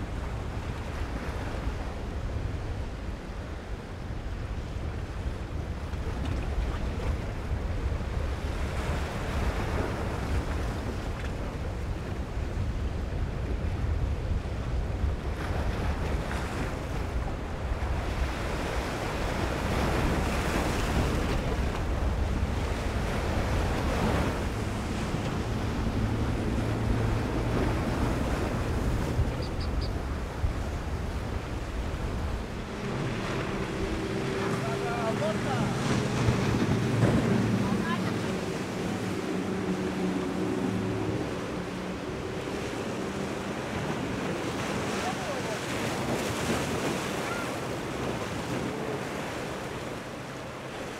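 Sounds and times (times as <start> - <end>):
outboard motors humming: 0.0 - 50.9
sea waves breaking: 0.0 - 50.9
surf: 0.0 - 50.9
wind buffeting microphone: 0.1 - 44.9.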